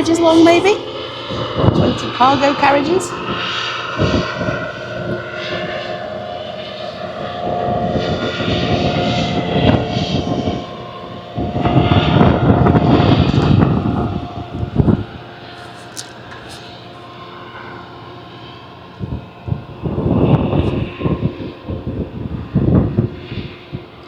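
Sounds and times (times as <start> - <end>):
freight train rumbling: 0.0 - 24.0
wind gusting on microphone: 0.0 - 24.0.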